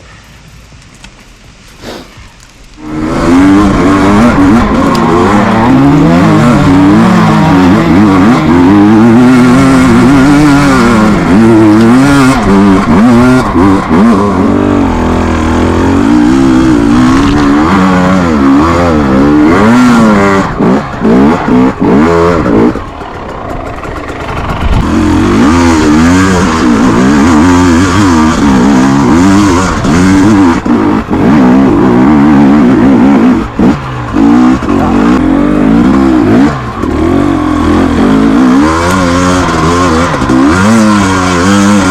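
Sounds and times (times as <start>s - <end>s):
two-stroke motorcycle engine revving: 1.8s - 41.9s.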